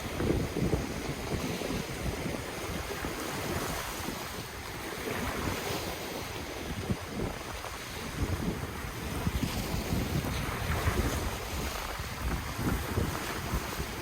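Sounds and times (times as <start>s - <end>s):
ocean waves washing: 0.0s - 14.0s
wind rumbling on microphone: 0.0s - 14.0s.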